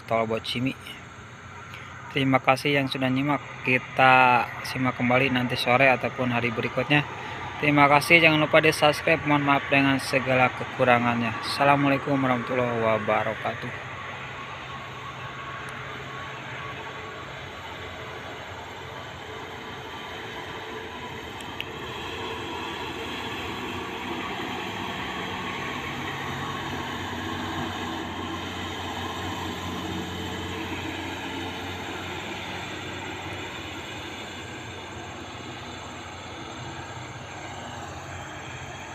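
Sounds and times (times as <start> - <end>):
car passing: 0.0 - 38.9
truck engine and tyres droning: 0.0 - 38.9.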